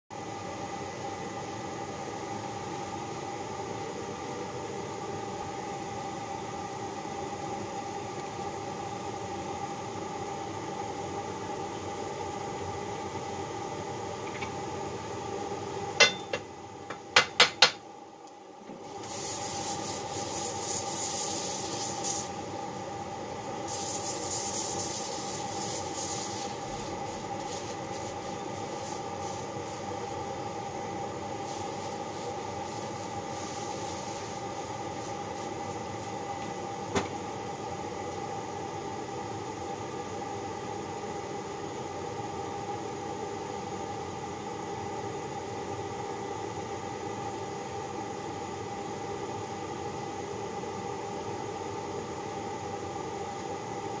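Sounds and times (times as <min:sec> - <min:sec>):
workshop hum: 0:00.1 - 0:54.0.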